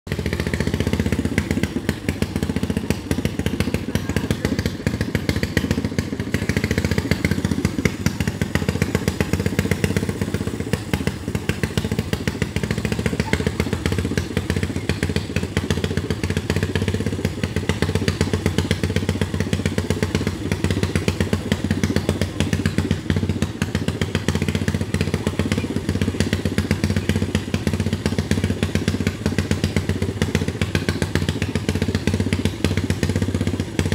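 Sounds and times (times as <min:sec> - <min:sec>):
small tractor engine running: 0:00.0 - 0:33.9.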